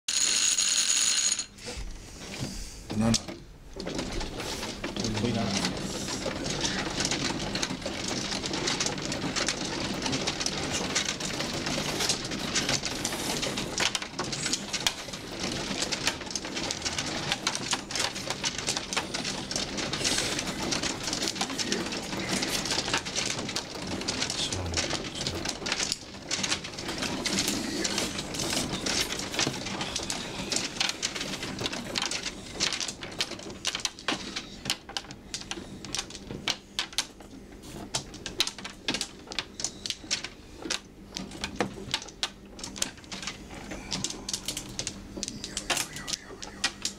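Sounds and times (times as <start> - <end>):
mahjong tiles clacking: 0.1 - 1.6, 4.8 - 46.9.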